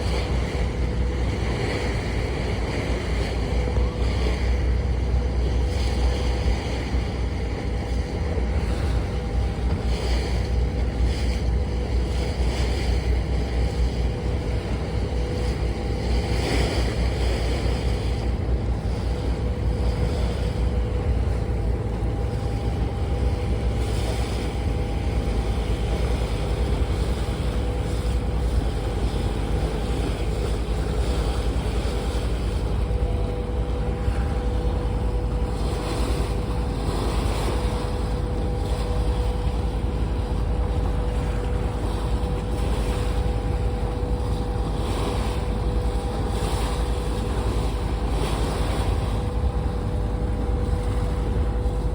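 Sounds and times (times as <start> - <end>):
boat engine running: 0.0 - 51.9
water wash: 0.0 - 51.9.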